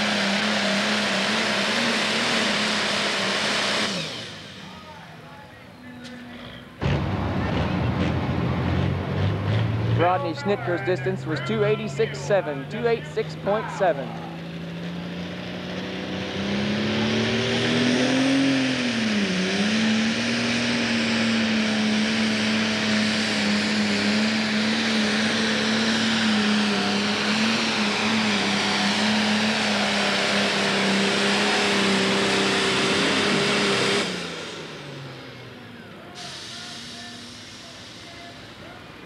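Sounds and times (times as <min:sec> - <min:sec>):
diesel engine at full throttle: 0:00.0 - 0:39.0.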